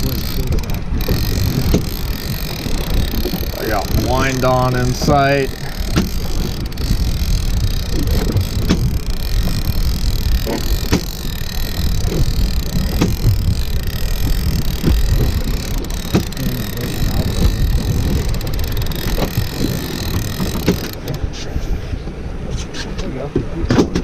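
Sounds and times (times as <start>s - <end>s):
fishing reel knocks and clicks: 0.0s - 21.3s
boat motor rumbling: 0.0s - 22.4s
wind buffeting microphone: 0.0s - 23.6s.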